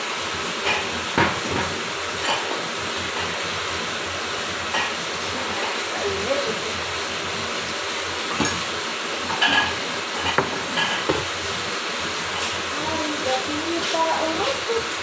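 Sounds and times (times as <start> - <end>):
steady hiss: 0.0 - 15.0
pots and pans clattering: 0.5 - 6.7, 7.4 - 15.0.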